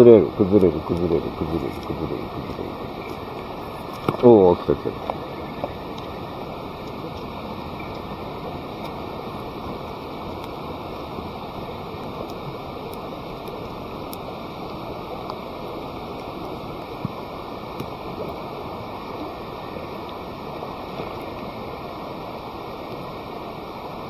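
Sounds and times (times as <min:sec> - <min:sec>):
fire crackles and pops: 0:00.0 - 0:20.2
rushing campfire flames: 0:00.0 - 0:24.0.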